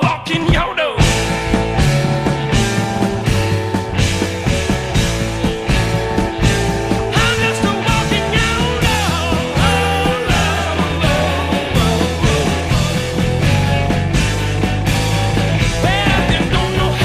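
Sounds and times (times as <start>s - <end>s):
rock music with steady beat: 0.0s - 17.0s.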